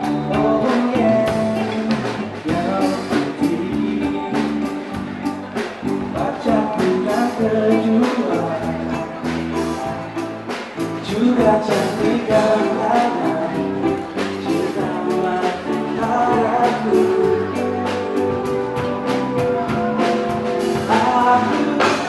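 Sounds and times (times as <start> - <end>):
man singing into a microphone: 0.0 - 9.8, 11.0 - 18.6, 20.5 - 22.0
acoustic guitar: 0.0 - 22.0
bass line: 0.0 - 22.0
drums steady beat: 0.0 - 22.0.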